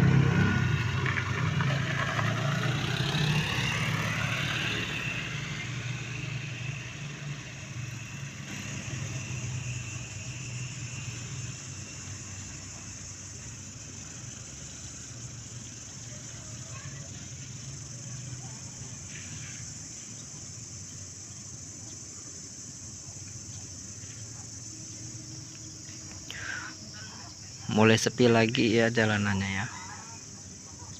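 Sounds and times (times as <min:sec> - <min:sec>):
engine whine: 0:00.0 - 0:29.5
vehicle engine humming: 0:00.0 - 0:30.9.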